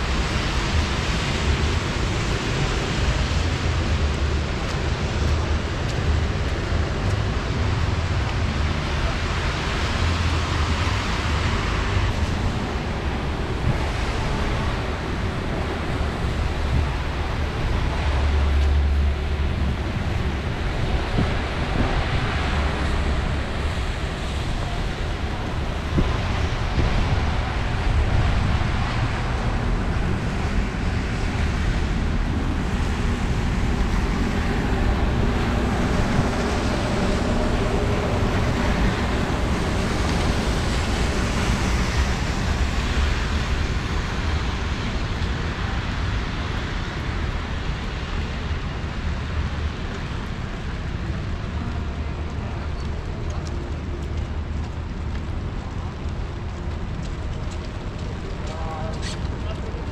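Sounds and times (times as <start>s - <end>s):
tyres on wet road: 0.0s - 59.9s
wind rumble on microphone: 0.0s - 59.9s.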